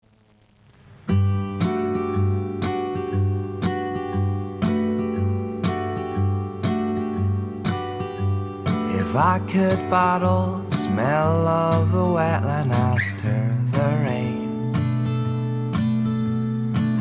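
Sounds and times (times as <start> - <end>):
strummed acoustic guitar chords: 1.0 - 17.0.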